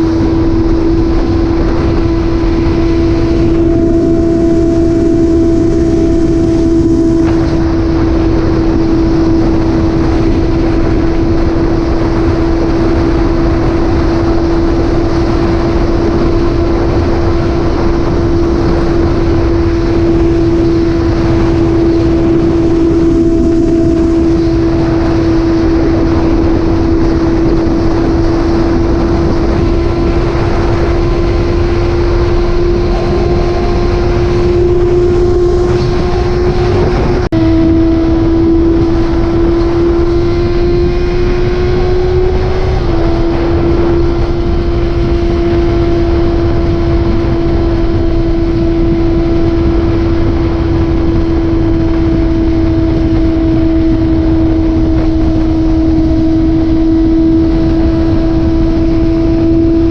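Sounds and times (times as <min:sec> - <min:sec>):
dense rushing noise: 0:00.0 - 0:59.9
motorcycle engine running: 0:00.0 - 0:59.9.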